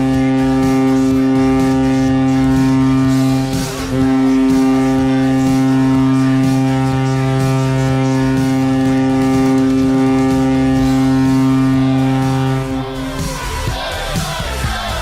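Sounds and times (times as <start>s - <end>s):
arena goal horn blowing: 0.0s - 14.0s.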